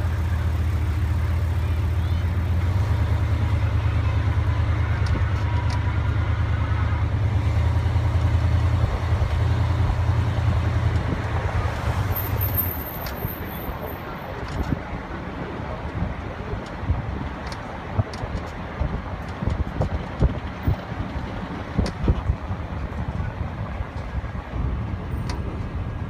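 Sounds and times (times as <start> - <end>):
tyre and road noise: 0.0 - 26.0.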